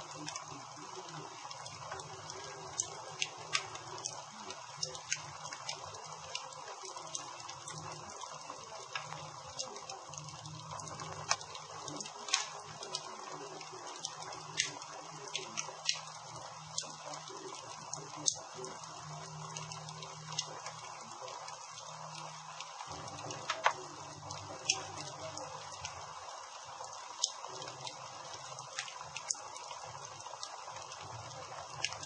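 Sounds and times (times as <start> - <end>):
campfire hissing and crackling: 0.0 - 32.0.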